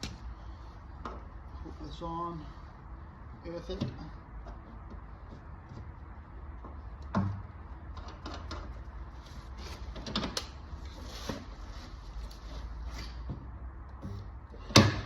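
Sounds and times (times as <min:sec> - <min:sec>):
steady low hum: 0:00.0 - 0:09.6, 0:10.5 - 0:15.0.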